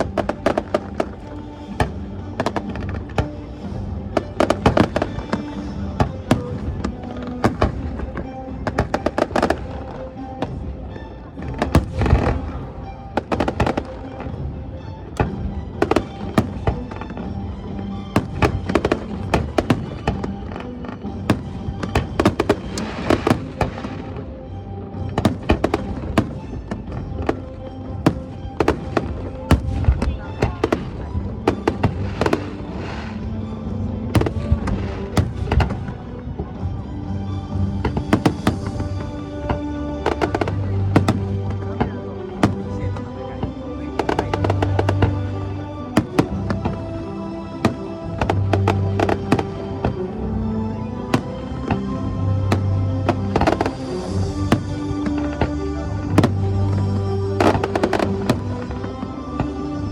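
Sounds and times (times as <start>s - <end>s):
fireworks bangs and crackles: 0.0s - 59.9s
music playing: 0.0s - 59.9s.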